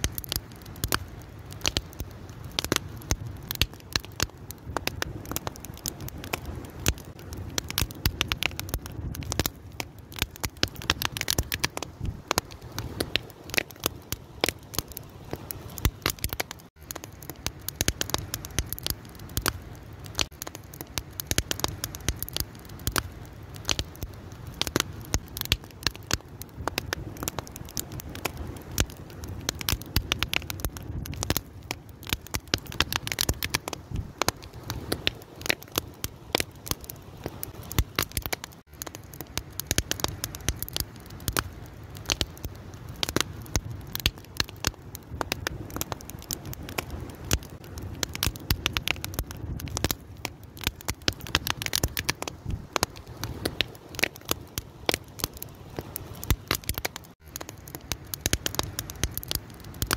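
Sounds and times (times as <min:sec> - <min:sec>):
fire crackling and popping: 0:00.0 - 0:59.9
low rush of burning: 0:00.0 - 0:59.9.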